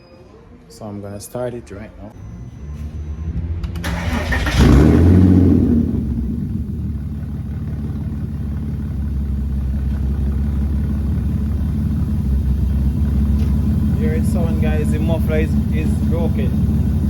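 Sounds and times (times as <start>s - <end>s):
car engine starting and idling: 2.1s - 17.0s
loud exhaust: 2.2s - 17.0s.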